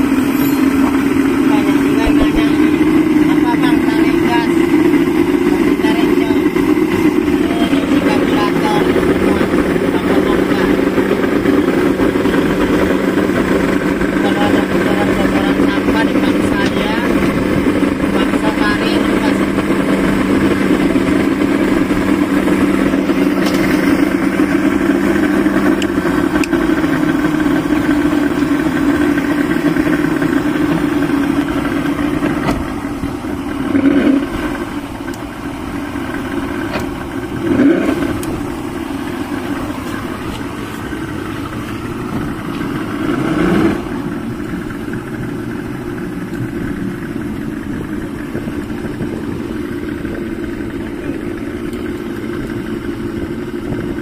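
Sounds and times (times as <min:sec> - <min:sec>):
outboard motor idling: 0:00.0 - 0:54.0
outboard throttle blips: 0:00.0 - 0:54.0.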